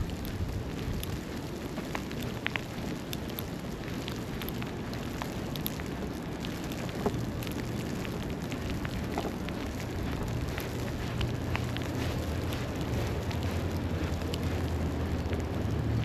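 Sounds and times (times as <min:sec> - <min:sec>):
low city rumble: 0:00.0 - 0:16.0
small scattered crackles and ticks: 0:00.0 - 0:16.0.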